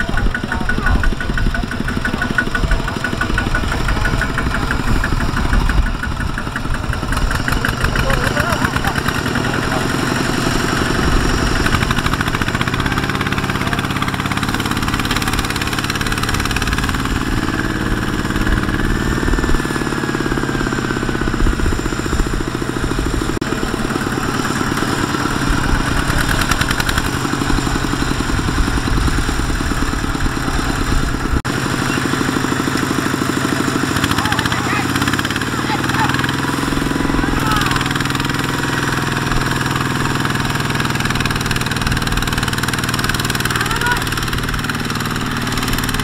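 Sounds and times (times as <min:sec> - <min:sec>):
diesel tractor engine chugging: 0:00.0 - 0:46.0.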